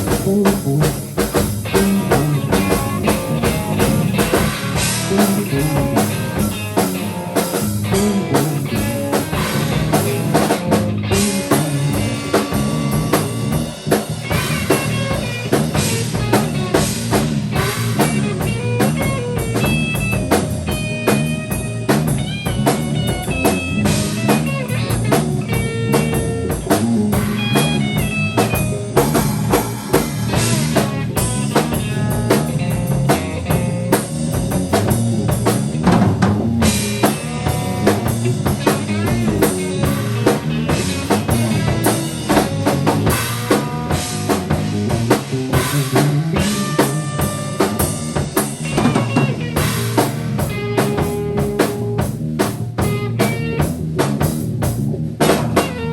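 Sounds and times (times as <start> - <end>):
drum kit playing busy rhythms: 0.0 - 55.9
guitar: 0.0 - 55.9.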